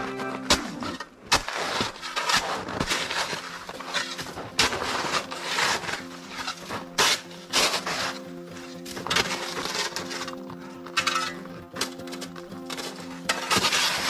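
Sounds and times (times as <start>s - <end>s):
snow shovel scraping frozen snow: 0.3s - 14.0s.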